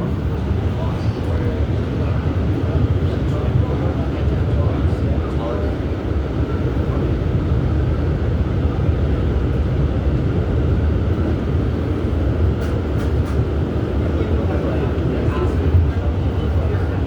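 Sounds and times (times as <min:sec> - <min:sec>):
train rumble of wheels and motors: 0:00.0 - 0:17.0.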